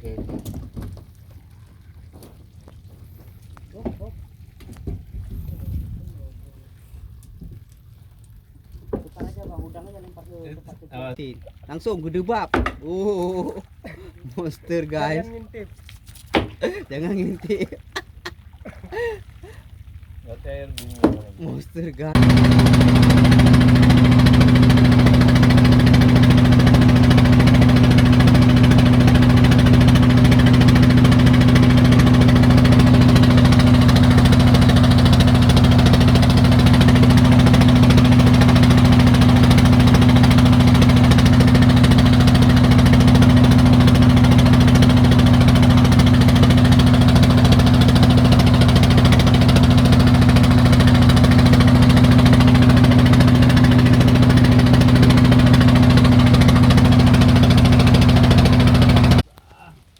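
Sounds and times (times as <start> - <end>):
engine running steadily: 7.2 - 59.3.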